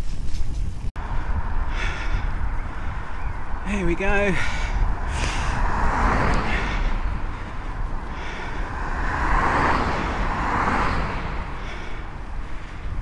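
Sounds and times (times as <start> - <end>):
wind rumble on microphone: 0.0 - 13.0
cars passing close by: 1.0 - 13.0.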